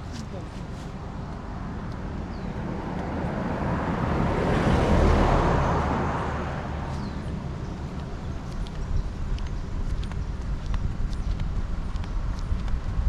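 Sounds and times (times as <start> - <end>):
motor vehicle passing by: 0.0 - 13.0.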